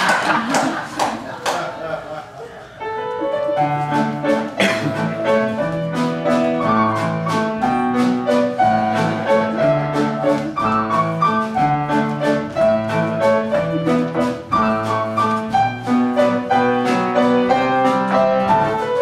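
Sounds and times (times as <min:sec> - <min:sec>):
piano: 0:02.6 - 0:19.0
bass: 0:03.8 - 0:19.0.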